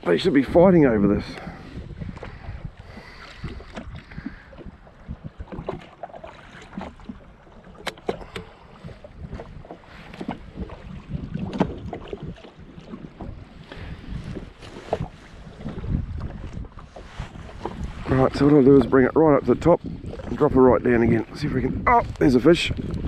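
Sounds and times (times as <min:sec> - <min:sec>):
small waves slapping a hull: 0:00.0 - 0:23.0
wind buffeting microphone: 0:00.0 - 0:23.0.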